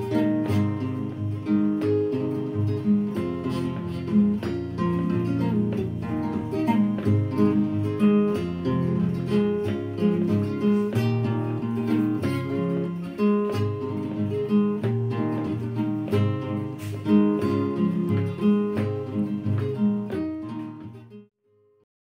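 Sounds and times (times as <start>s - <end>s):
acoustic guitar strumming and picking: 0.0s - 21.3s.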